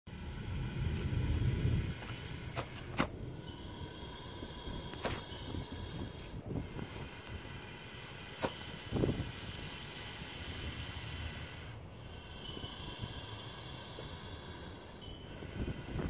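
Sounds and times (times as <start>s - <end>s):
snake hissing: 0.1s - 16.0s.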